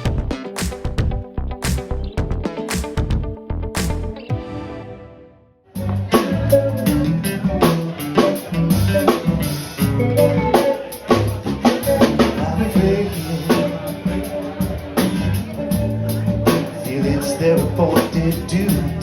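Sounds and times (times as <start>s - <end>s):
drum kit beat: 0.0s - 5.0s, 5.8s - 19.0s
instrumental band music: 0.0s - 19.0s.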